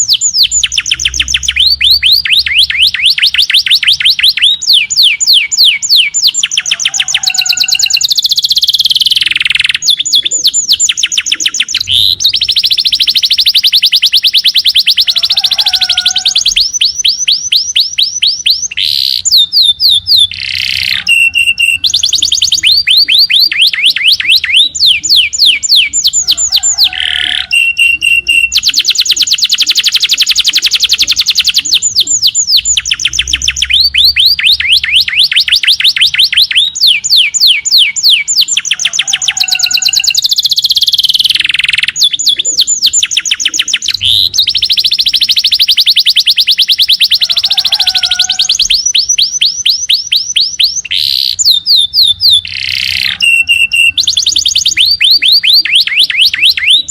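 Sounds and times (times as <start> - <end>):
bird whistled notes: 0.0 - 56.9.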